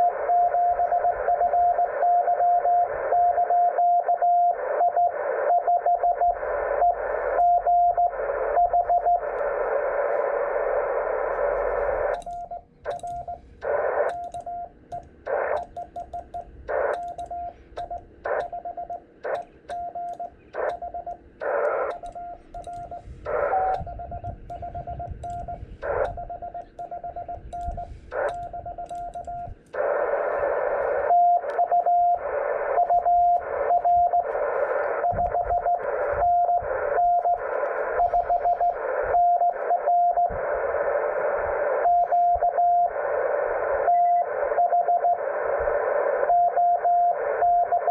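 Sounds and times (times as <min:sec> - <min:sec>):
morse code tone: 0:00.0 - 0:09.7, 0:11.3 - 0:40.4, 0:41.7 - 0:43.0, 0:43.8 - 0:45.3
radio band hiss: 0:00.0 - 0:47.9.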